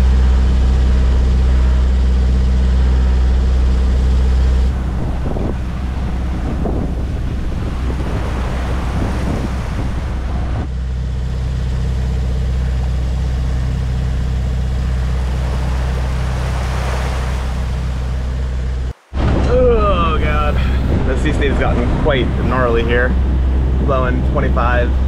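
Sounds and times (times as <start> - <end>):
low hum: 0.0 - 25.0
rushing sea: 0.0 - 25.0
wind: 0.0 - 25.0.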